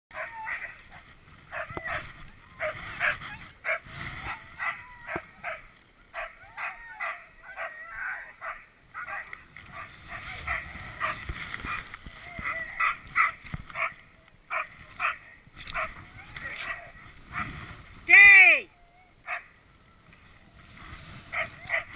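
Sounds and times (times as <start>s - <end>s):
dogs barking yipping and whining: 0.1s - 17.5s, 18.7s - 20.0s, 21.3s - 21.9s.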